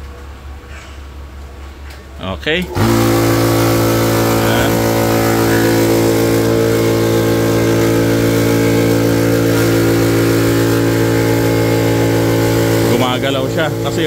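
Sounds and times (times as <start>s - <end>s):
air compressor humming: 2.2s - 14.0s.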